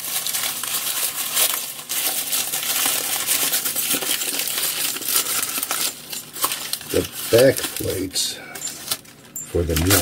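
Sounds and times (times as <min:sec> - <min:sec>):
paper crumpling: 0:00.0 - 0:10.0.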